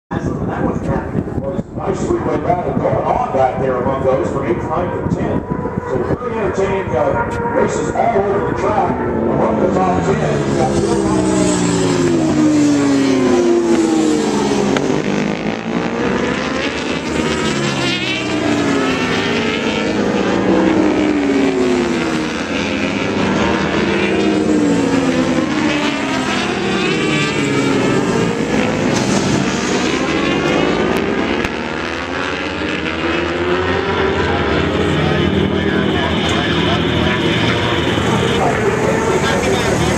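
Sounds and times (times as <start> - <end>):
racing motorcycle engines revving: 0.1 - 39.9.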